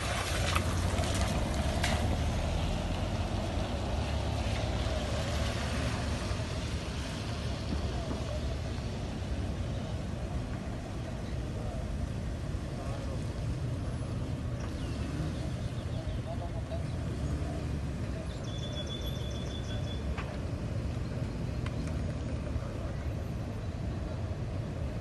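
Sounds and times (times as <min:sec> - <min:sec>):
low traffic rumble: 0:00.0 - 0:25.0
faint voices: 0:04.4 - 0:24.9.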